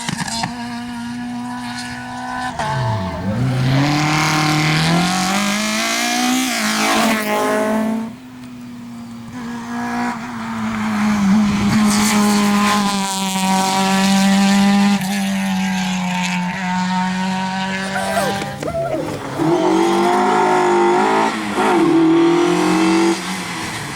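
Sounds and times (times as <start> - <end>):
rally car engine at high revs: 0.0 - 23.9.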